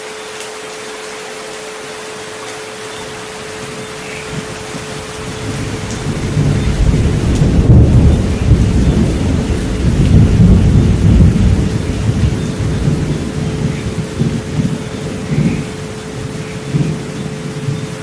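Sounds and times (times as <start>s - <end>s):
steady rain: 0.0s - 18.0s
thunder rumbling: 3.4s - 18.0s.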